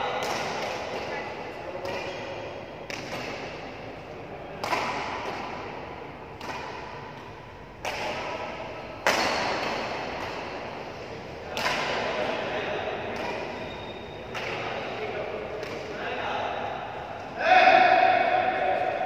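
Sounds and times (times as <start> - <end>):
rackets hitting shuttlecock: 0.0 - 16.0.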